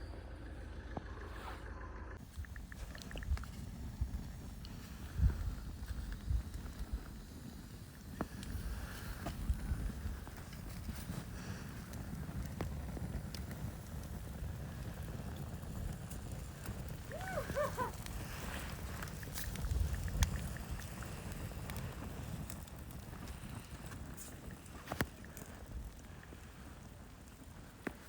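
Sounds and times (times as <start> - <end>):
wind buffeting microphone: 2.2 - 28.0.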